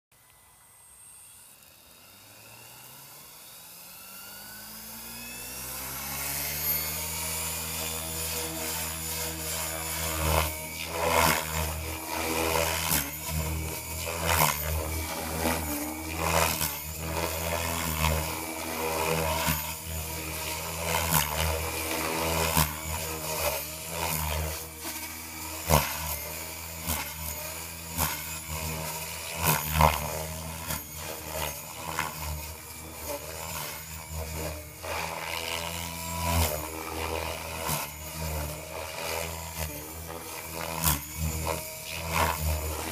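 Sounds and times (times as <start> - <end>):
model helicopter buzzing whine: 0.1 - 42.9.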